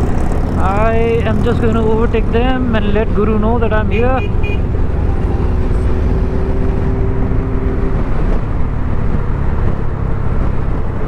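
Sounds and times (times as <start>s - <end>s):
motorcycle engine noise: 0.0s - 11.0s.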